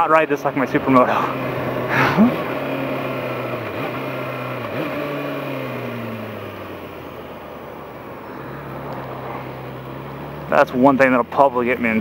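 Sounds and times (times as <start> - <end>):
motorcycle engine: 0.0 - 12.0.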